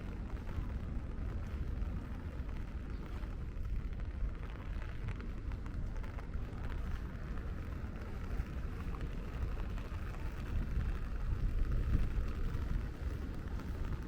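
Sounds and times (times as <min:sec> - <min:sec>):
low rumble of city traffic: 0:00.0 - 0:14.0
steady rain falling: 0:00.0 - 0:14.0.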